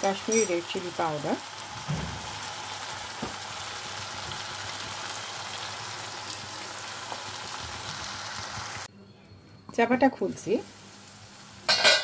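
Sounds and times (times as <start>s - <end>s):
masala sizzling in oil: 0.0s - 8.9s, 10.0s - 12.0s.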